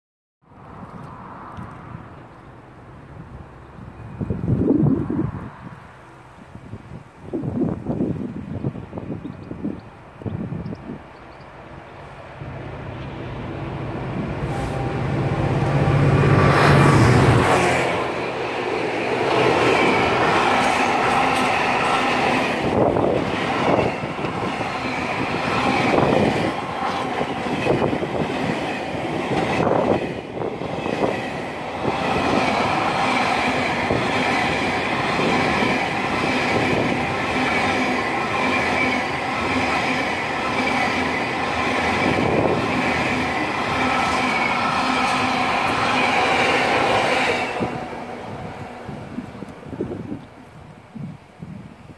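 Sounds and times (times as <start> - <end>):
diesel locomotive passing: 0.5 - 50.9.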